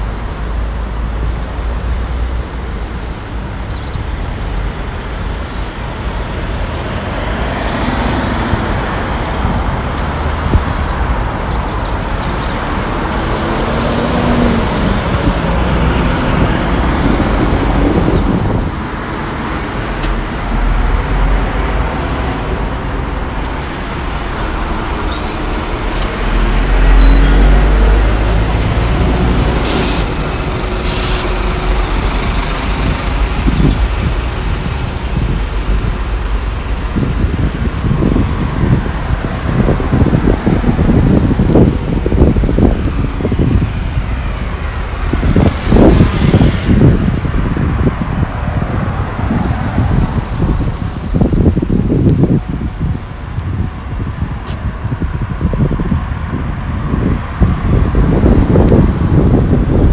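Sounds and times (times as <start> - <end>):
cars and trucks passing: 0.0 - 59.9.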